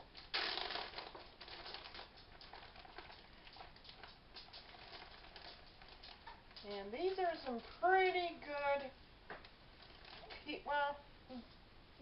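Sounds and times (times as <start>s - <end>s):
crinkling rustle: 0.1s - 10.6s.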